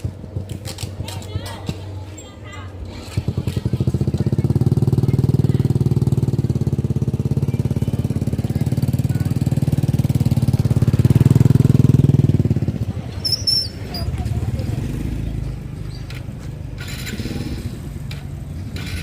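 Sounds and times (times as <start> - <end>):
small engine running: 3.0 - 19.0.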